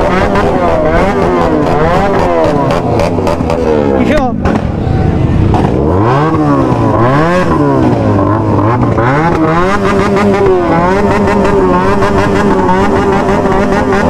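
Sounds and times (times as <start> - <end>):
fast engine crackle: 0.0 - 14.0
motorcycle engine revving: 0.0 - 14.0.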